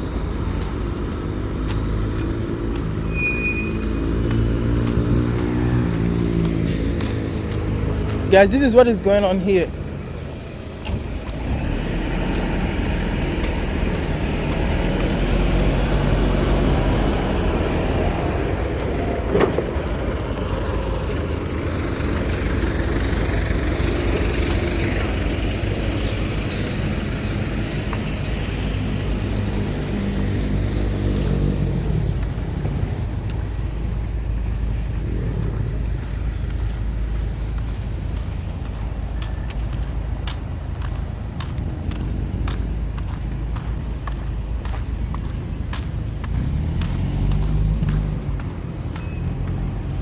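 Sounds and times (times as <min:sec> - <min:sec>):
heavy machinery engines running: 0:00.0 - 0:50.0.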